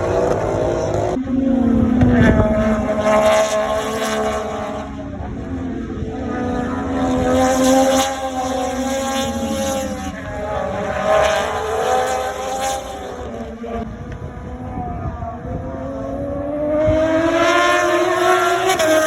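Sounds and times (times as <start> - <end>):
racing motorcycle engines high revs: 0.0 - 19.0.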